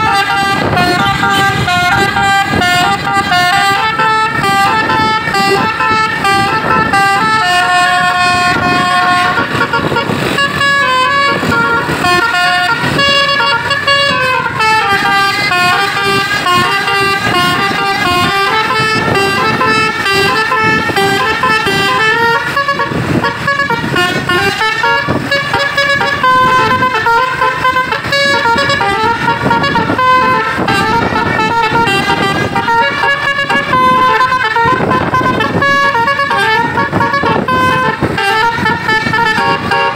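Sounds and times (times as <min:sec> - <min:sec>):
bus engine: 0:00.0 - 0:39.9
musical bus horn melody: 0:00.0 - 0:39.9
road noise: 0:00.0 - 0:39.9.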